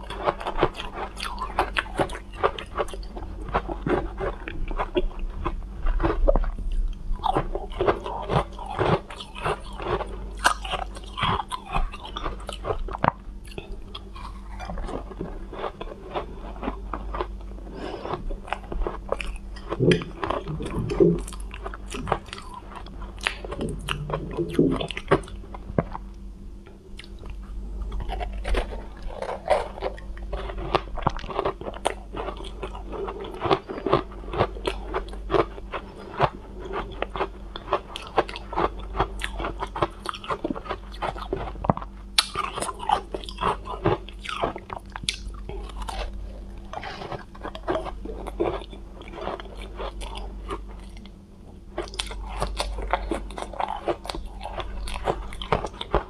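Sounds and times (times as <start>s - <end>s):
crunching ice being chewed: 0.0s - 56.0s.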